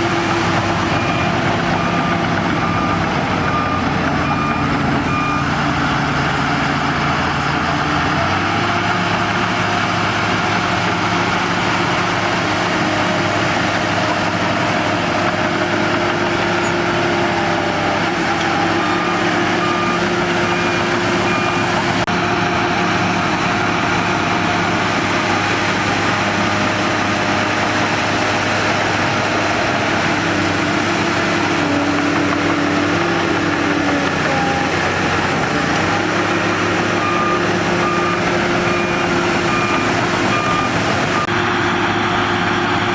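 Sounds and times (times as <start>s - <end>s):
reversing alarm beeping: 0.0s - 22.6s, 29.1s - 42.9s
bulldozer diesel engine running: 0.0s - 42.9s.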